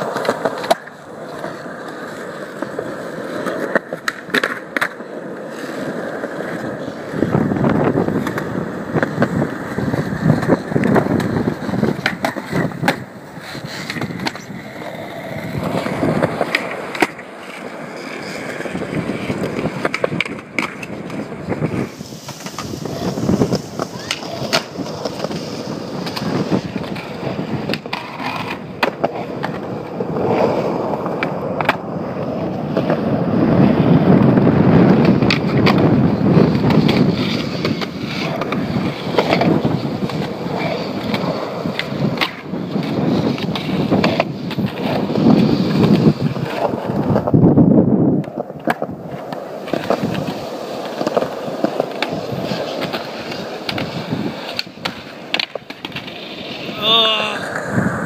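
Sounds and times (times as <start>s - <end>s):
skateboard popping and landing: 0.0s - 58.0s
skateboard wheels rolling: 0.0s - 58.0s.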